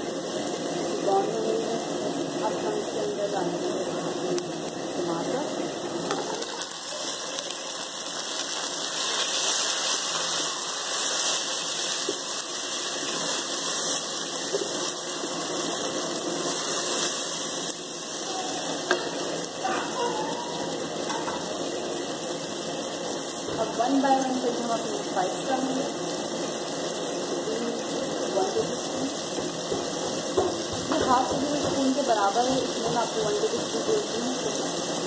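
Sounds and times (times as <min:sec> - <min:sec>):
vegetables sizzling in oil: 0:00.0 - 0:35.0.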